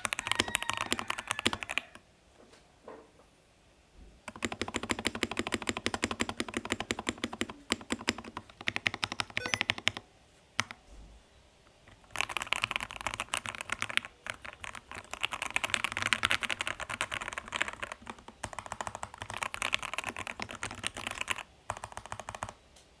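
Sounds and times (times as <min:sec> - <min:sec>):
mechanical keyboard typing: 0:00.0 - 0:02.0, 0:04.2 - 0:10.0, 0:11.9 - 0:22.6.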